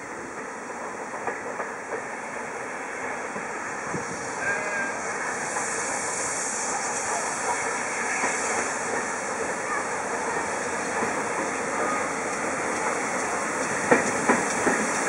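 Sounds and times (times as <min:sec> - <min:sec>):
steam hissing: 0:00.0 - 0:15.0
steam locomotive approaching: 0:00.0 - 0:15.0.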